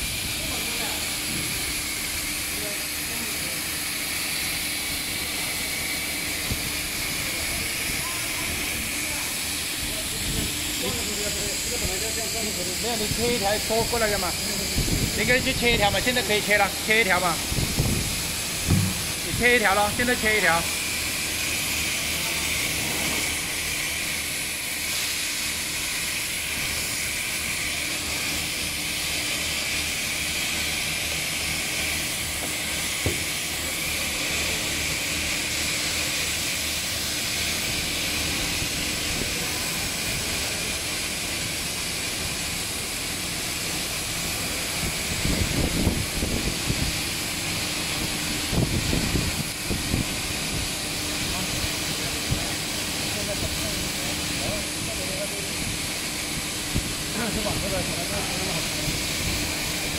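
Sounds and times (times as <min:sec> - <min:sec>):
duct forming machine hissing: 0:00.0 - 0:59.9.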